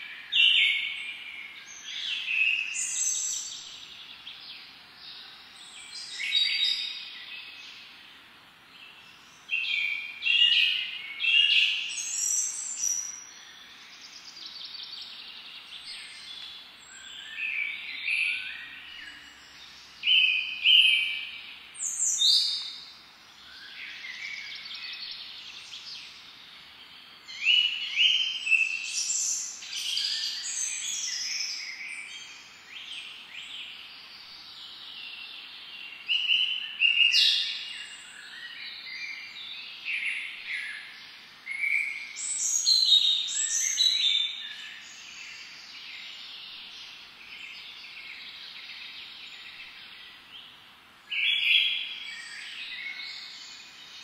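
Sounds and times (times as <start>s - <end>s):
songbirds twittering: 0.0s - 54.0s
soft background hiss: 0.2s - 54.0s.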